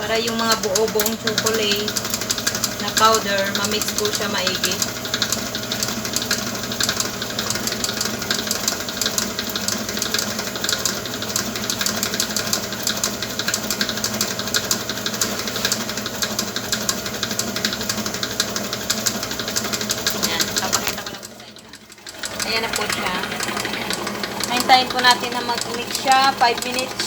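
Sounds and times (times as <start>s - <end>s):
electric mixer running: 0.0s - 27.0s.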